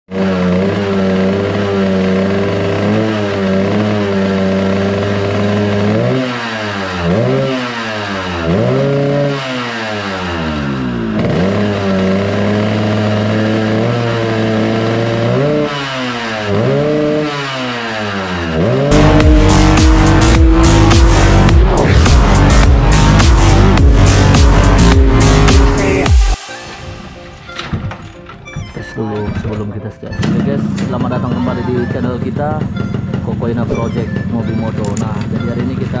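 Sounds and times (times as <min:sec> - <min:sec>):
motorcycle engine idling and revving: 0:00.1 - 0:28.2, 0:30.2 - 0:36.0.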